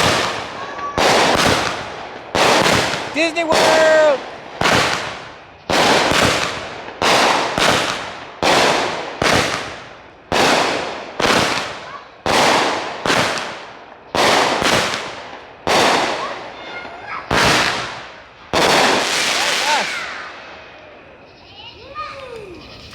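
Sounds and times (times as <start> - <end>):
fireworks banging: 0.0 - 22.9.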